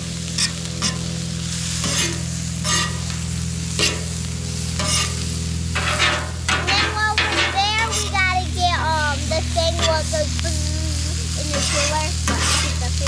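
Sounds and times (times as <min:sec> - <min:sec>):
food sizzling on a griddle: 0:00.0 - 0:13.0
metal spatula scraping griddle: 0:00.0 - 0:13.0
steady low hum: 0:00.0 - 0:13.0.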